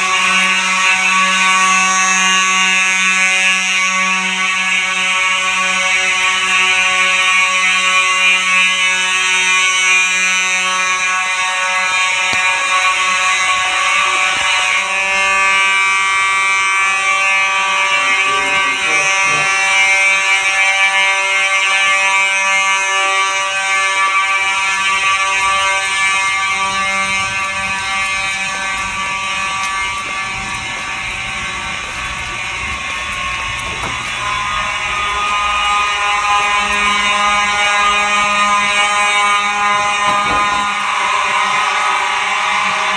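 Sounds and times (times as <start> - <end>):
fire alarm horns blaring: 0.0 - 42.9.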